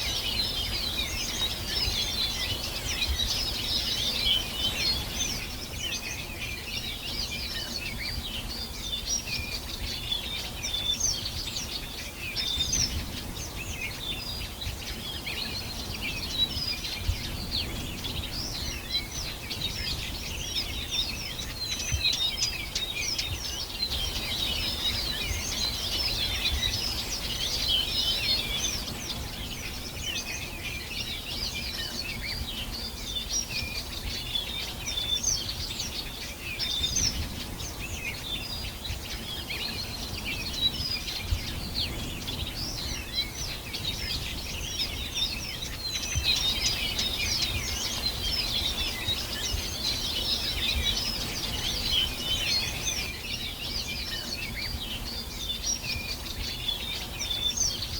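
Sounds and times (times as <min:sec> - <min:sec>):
small birds chorus: 0:00.0 - 0:57.9.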